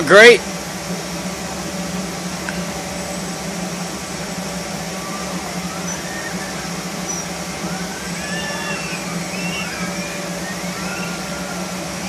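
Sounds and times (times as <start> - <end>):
low hum: 0.0 - 12.0
machinery droning: 0.0 - 12.0.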